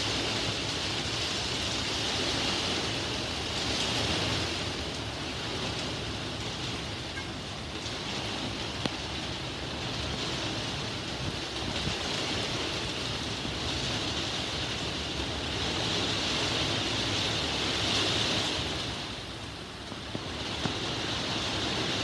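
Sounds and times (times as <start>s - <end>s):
heavy rain in strong wind: 0.0s - 22.0s.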